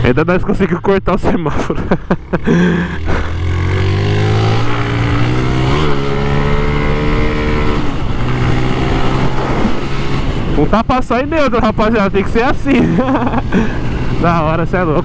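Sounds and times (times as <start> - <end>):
motorcycle engine pulling under throttle: 1.7 - 15.0.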